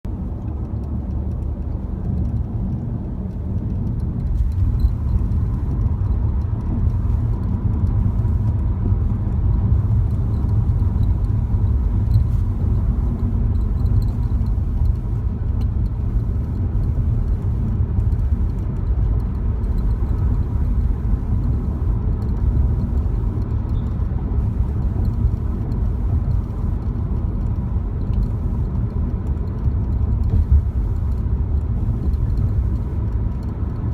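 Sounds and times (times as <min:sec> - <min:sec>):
car engine low rumble: 0:00.0 - 0:33.9.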